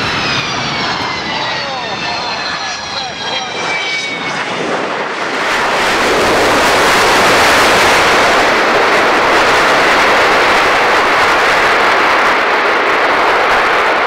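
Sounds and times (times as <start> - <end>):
jet engines in reverse thrust: 0.0 - 14.0.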